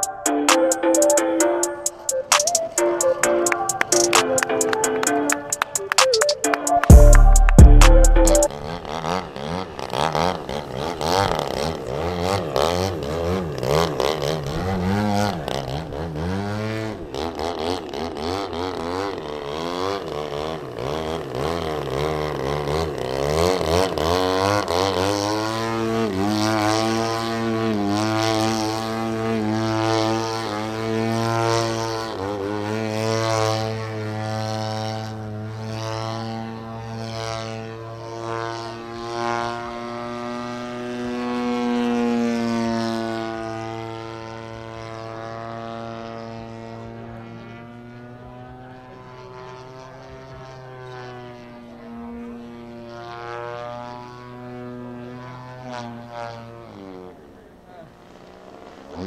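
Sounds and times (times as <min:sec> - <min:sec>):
model airplane engine: 0:08.5 - 0:59.0.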